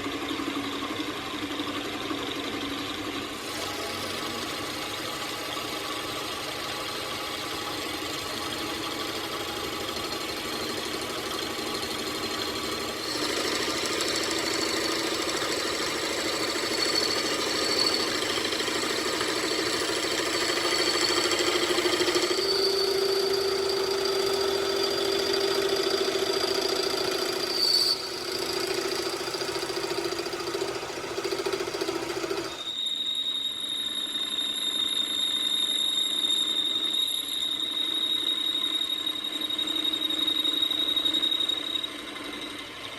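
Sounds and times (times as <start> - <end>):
machinery humming and whining: 0.0 - 42.9.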